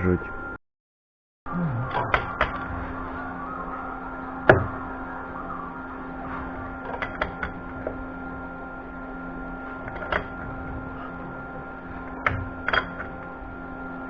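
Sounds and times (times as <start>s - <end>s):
steady hum: 0.0s - 0.6s, 1.5s - 14.0s.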